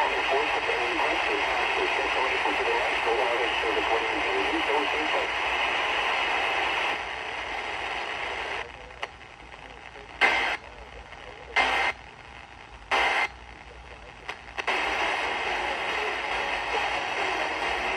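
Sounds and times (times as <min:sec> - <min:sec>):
radio hiss: 0:00.0 - 0:17.9.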